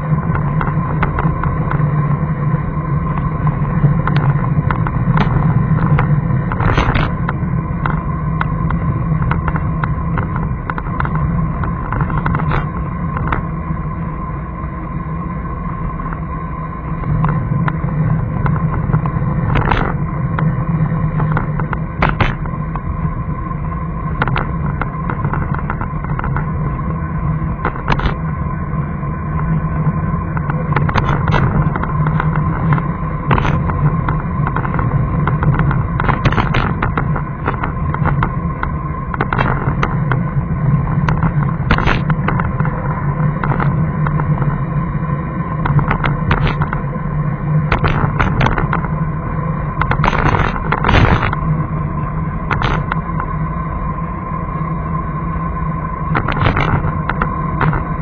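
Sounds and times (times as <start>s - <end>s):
vehicle road hum: 0.0s - 58.0s.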